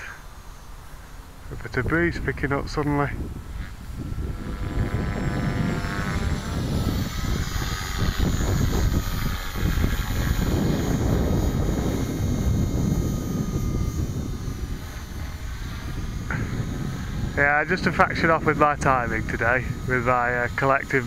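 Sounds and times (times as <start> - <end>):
rc helicopter rotor whine: 0.0 - 21.0
wind rumbling on microphone: 0.0 - 21.0.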